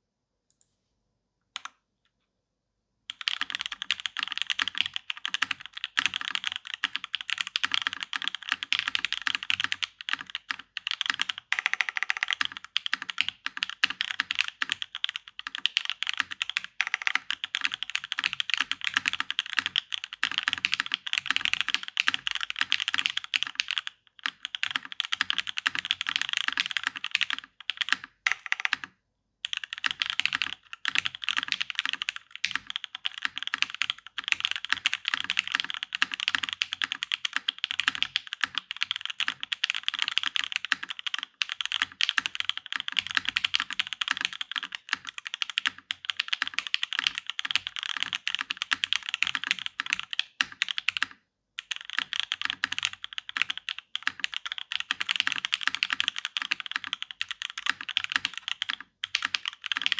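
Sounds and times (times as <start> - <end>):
mechanical keyboard typing: 3.1 - 59.9.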